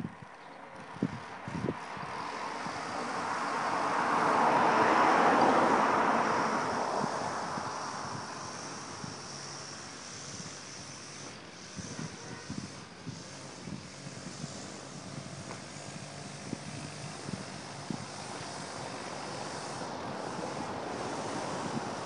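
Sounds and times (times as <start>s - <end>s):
vehicle passing by: 0.8s - 22.0s.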